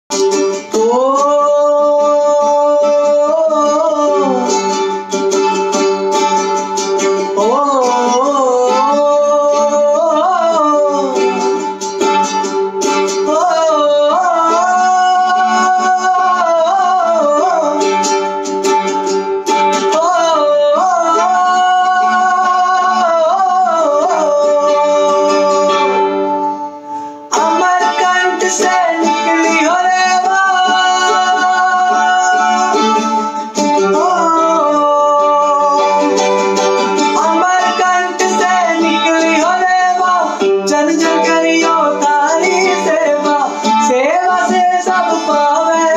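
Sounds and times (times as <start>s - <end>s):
man singing with vibrato: 0.1s - 45.9s
strummed mandolin: 0.1s - 45.9s.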